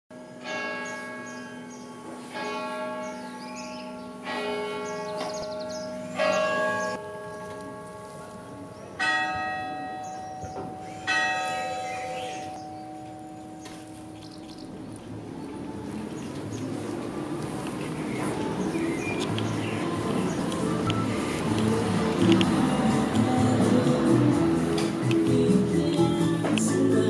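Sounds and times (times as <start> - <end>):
church bells tolling: 0.1 - 15.2, 17.0 - 25.2.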